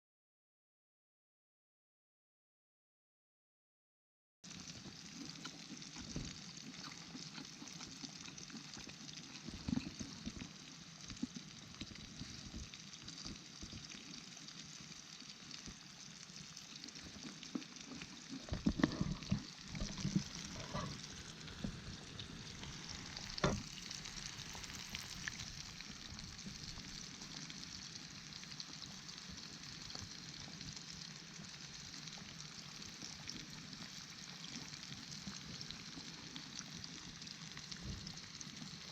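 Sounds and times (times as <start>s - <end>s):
chicken sizzling in hot oil: 4.5s - 38.9s.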